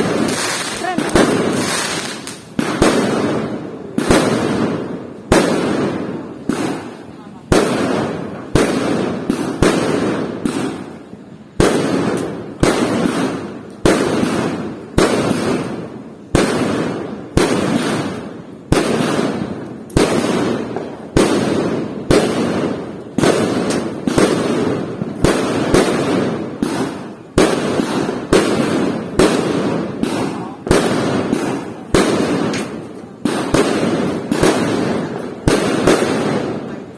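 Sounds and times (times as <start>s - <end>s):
fireworks bursting: 0.0s - 36.9s.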